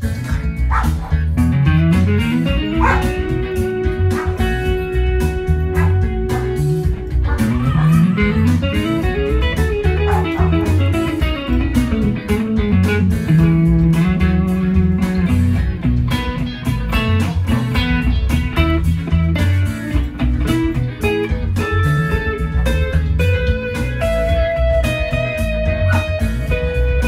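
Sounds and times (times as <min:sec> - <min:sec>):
electric guitar lead lines: 0:00.0 - 0:27.0
sustained bass line: 0:00.0 - 0:27.0.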